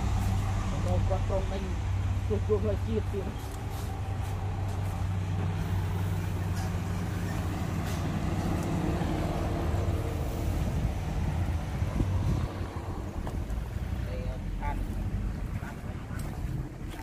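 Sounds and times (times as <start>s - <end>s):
dump truck engine running: 0.0s - 17.0s.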